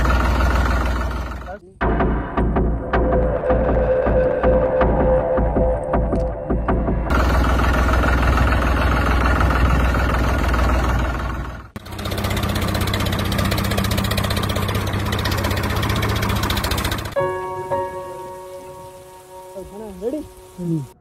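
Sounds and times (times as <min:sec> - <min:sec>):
engine low hum: 0:00.0 - 0:21.0
tractor engine running: 0:00.0 - 0:21.0.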